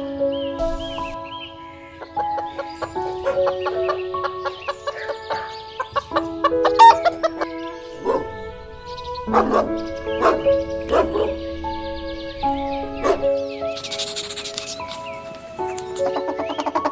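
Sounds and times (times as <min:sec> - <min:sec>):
background music: 0:00.0 - 0:16.9
chickens clucking: 0:02.0 - 0:16.9.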